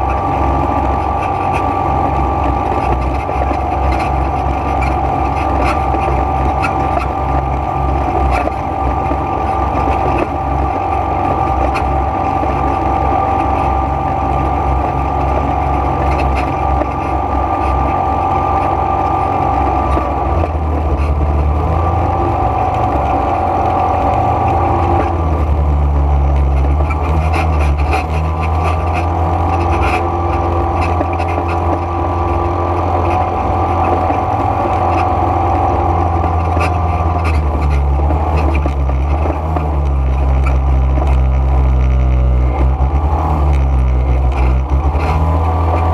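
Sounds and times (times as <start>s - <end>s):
atv engine running: 0.0s - 45.9s
low rumble from ride: 0.0s - 45.9s.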